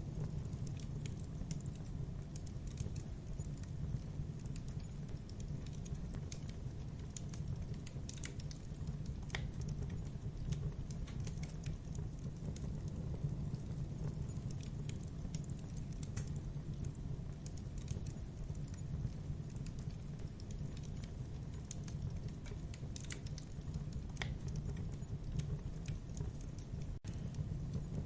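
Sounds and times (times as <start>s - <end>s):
burning wood crackling: 0.0s - 28.0s
low rush of flame: 0.0s - 28.0s.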